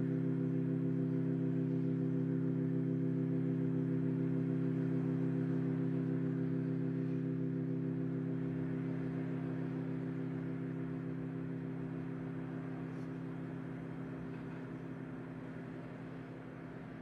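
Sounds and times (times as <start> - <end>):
low held chord: 0.0 - 17.0.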